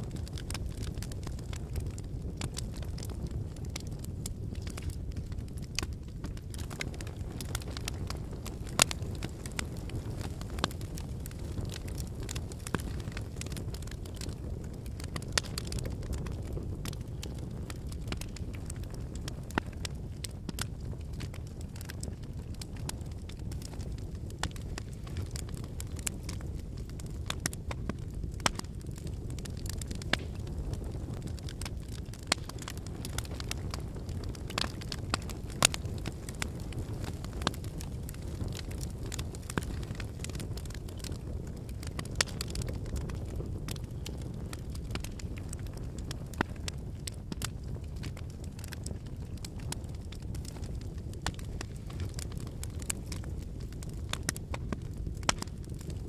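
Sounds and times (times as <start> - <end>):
firewood crackling and popping: 0.0 - 56.0
rush of flames: 0.0 - 56.0.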